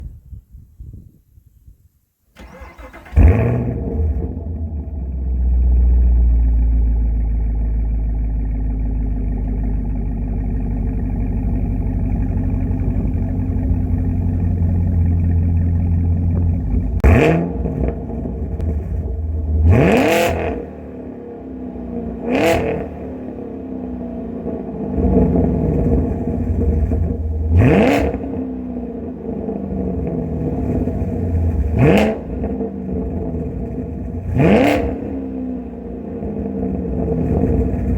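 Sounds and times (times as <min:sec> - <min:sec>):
car engine idling and revving: 0:02.4 - 0:37.9.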